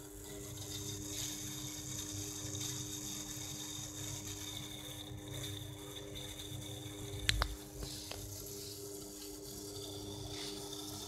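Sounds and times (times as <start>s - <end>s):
motor drive electrical hum: 0.0s - 11.0s
thin high whine and hiss: 0.0s - 11.0s.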